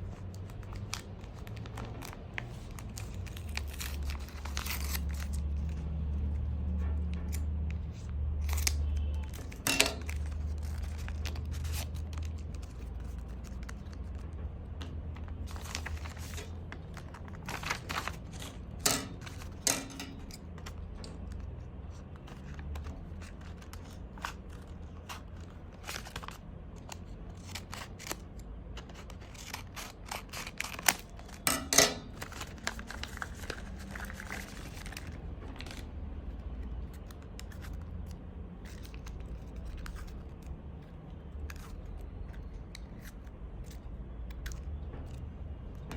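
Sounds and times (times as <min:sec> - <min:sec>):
packaging crinkling and tearing: 0:00.0 - 0:06.4, 0:07.2 - 0:45.2.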